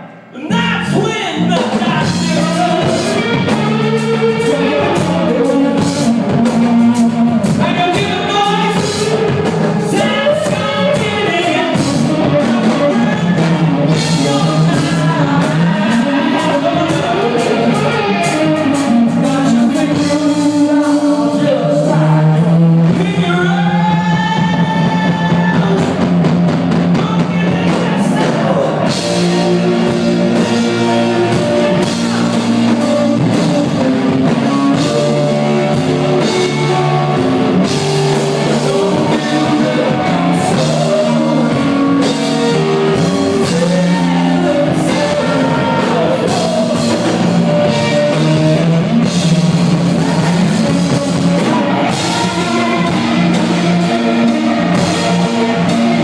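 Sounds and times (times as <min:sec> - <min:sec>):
electric guitar: 0:00.0 - 0:56.0
rock band playing: 0:00.0 - 0:56.0
drum kit: 0:00.4 - 0:56.0.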